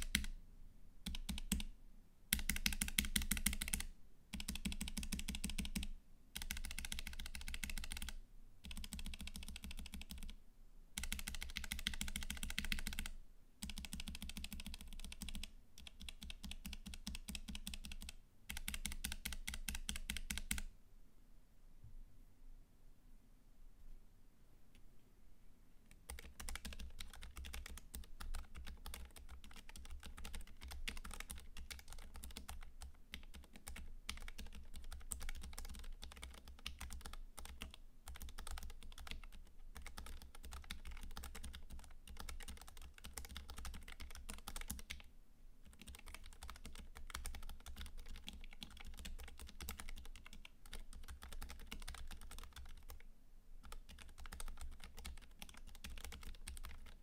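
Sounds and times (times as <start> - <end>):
keyboard typing clicks: 0.0 - 0.4, 1.0 - 1.7, 2.3 - 10.4, 11.0 - 20.7, 25.9 - 45.1, 45.7 - 57.0.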